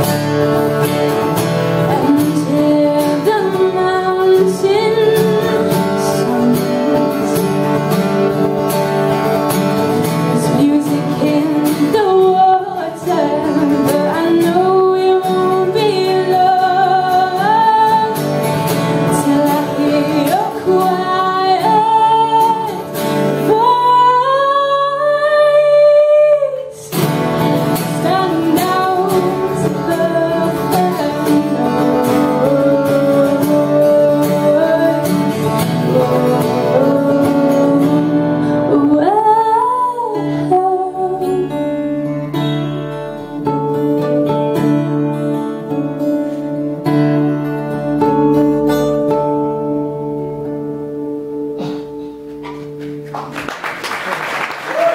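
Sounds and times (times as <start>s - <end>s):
woman singing folk song: 0.0s - 51.4s
acoustic guitars: 0.0s - 54.9s.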